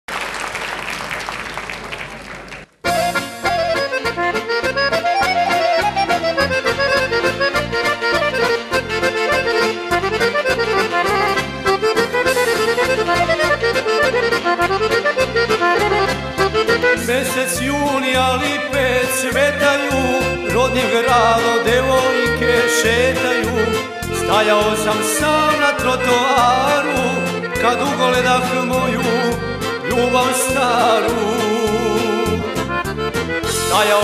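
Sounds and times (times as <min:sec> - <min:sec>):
accordion melody: 0:02.8 - 0:34.0
bass and drum kit beat: 0:02.8 - 0:34.0.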